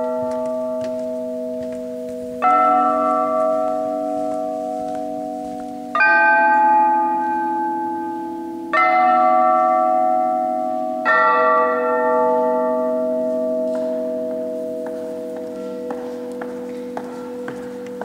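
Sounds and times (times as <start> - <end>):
bells chiming: 0.0 - 18.0.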